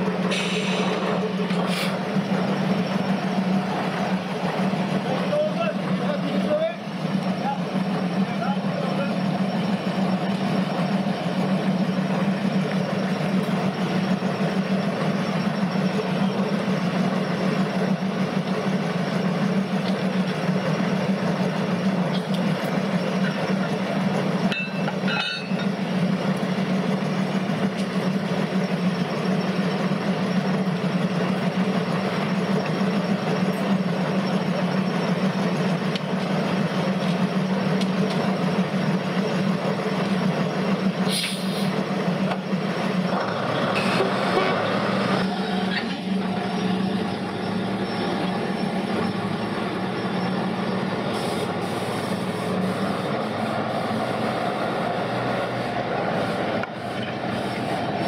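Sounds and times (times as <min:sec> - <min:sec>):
diesel locomotive engine idling: 0:00.0 - 0:58.0.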